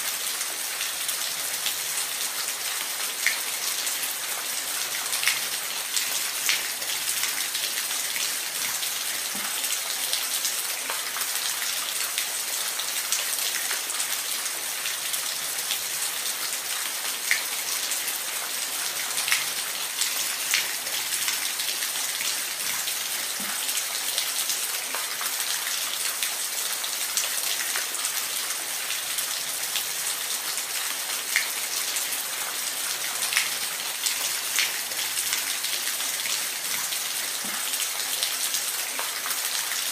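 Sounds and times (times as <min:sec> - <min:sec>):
water splashes and drips: 0:00.0 - 0:39.9.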